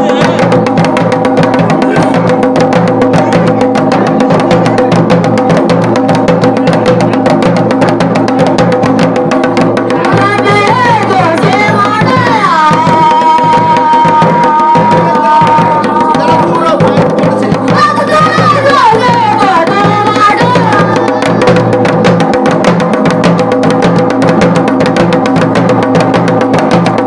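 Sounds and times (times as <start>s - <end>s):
dhol drum fast strokes: 0.0s - 27.0s.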